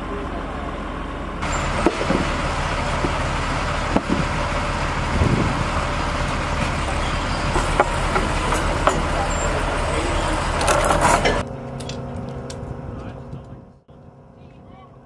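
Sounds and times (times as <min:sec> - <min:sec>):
engine running: 0:00.0 - 0:14.6.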